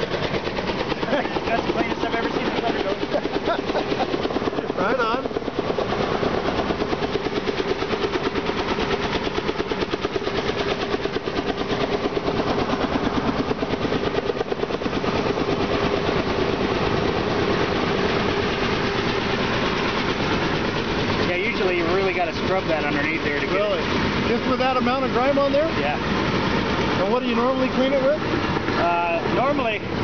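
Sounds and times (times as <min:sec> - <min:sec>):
helicopter rotor pulsing: 0:00.0 - 0:30.0.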